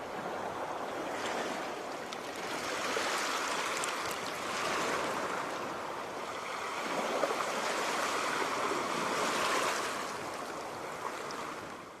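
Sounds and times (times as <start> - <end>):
sea waves washing onto shore: 0.0 - 11.8.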